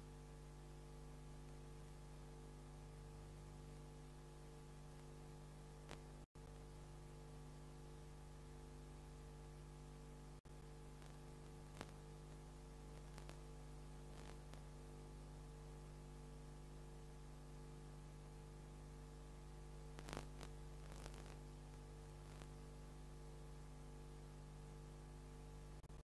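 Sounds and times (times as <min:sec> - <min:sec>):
mains hum: 0:00.0 - 0:26.0
tape hiss: 0:00.0 - 0:26.0.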